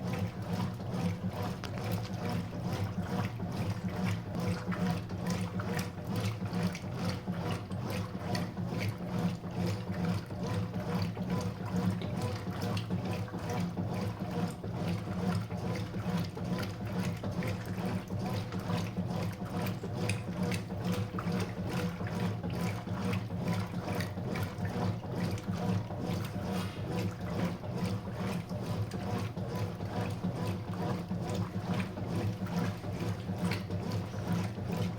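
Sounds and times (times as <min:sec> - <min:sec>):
washing machine motor hum: 0:00.0 - 0:34.9
water churning and splashing: 0:00.0 - 0:34.9.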